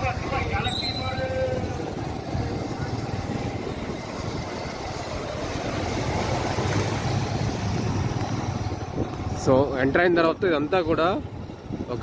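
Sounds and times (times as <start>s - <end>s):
engine rumble: 0.0s - 12.0s
road noise: 0.0s - 12.0s.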